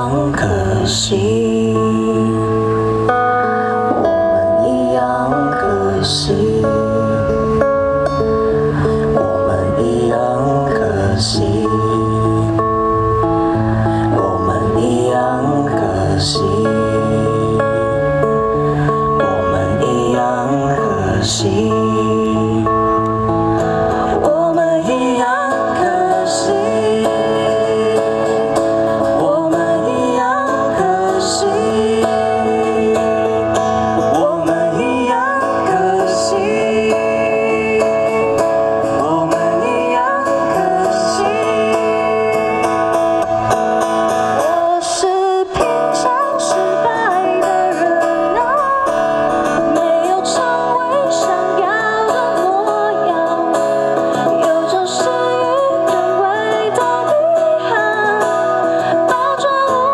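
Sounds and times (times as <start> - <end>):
guitar: 0.0 - 59.9
live band playing: 2.2 - 14.7, 16.0 - 59.9.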